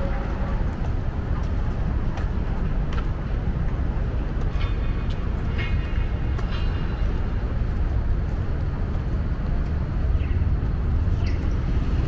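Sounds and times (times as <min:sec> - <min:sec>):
distant traffic: 0:00.0 - 0:12.0
footsteps on sidewalk: 0:00.0 - 0:12.0
low street rumble: 0:00.0 - 0:12.0.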